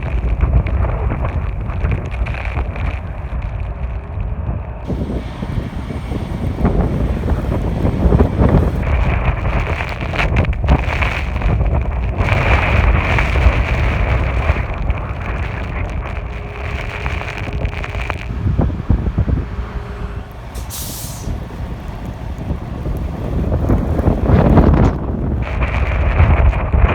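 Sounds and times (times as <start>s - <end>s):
wind buffeting microphone: 0.0s - 26.9s
steady hiss: 4.9s - 26.4s.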